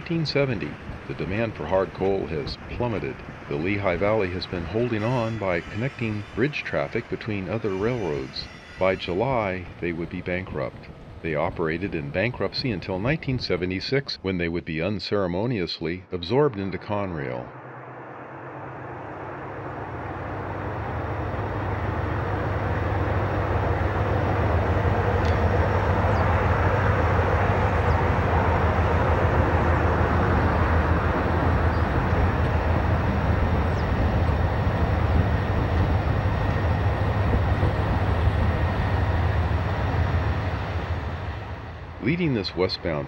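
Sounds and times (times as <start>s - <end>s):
low engine hum: 0.0s - 13.8s, 16.7s - 43.0s
diesel locomotives rolling past: 0.0s - 14.6s, 16.6s - 43.0s.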